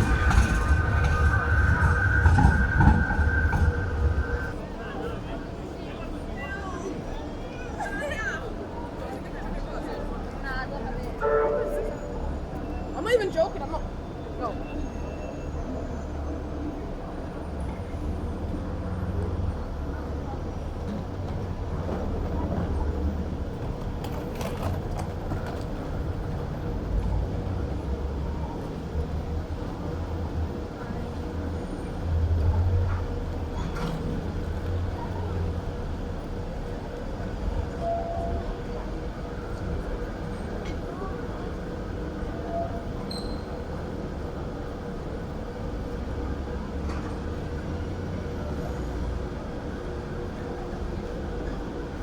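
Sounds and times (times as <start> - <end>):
city street noise: 0.0 - 52.0
trams and road traffic rumble: 0.0 - 52.0.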